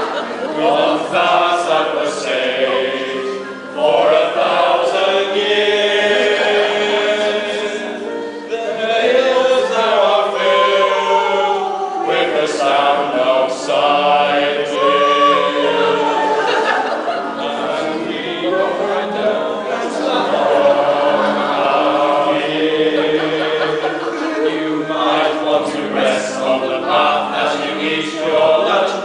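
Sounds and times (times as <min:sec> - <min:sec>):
men singing in chorus: 0:00.0 - 0:29.0.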